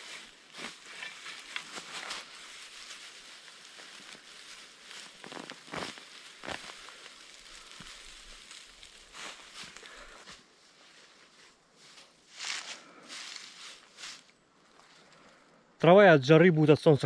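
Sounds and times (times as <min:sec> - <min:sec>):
grass and soil rustling: 0:00.0 - 0:15.4.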